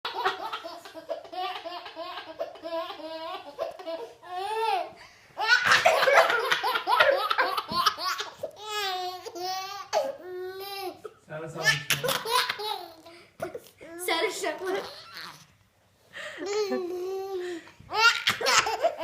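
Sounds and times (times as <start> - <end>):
baby laughing: 0.1 - 13.7, 16.4 - 19.0.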